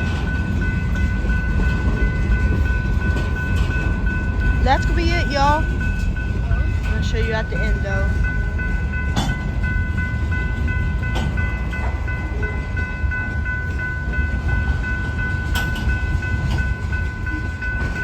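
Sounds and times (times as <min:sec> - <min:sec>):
train cars rumbling past: 0:00.0 - 0:18.0.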